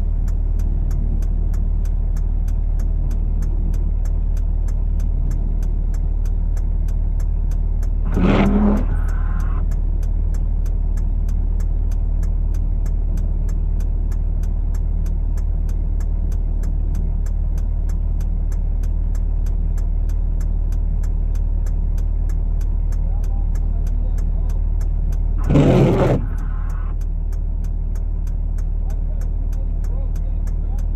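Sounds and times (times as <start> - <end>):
vehicle engine humming: 0.0 - 30.9.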